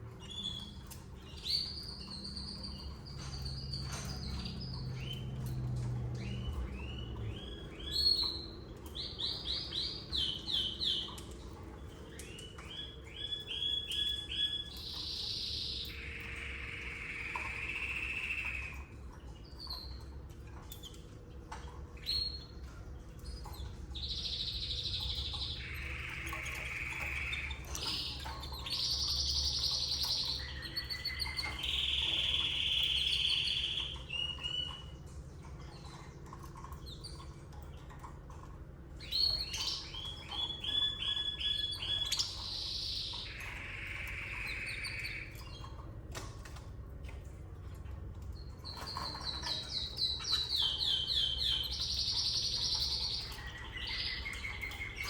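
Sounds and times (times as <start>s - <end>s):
canary singing trills: 0.1s - 37.3s, 39.0s - 47.2s, 48.3s - 55.0s.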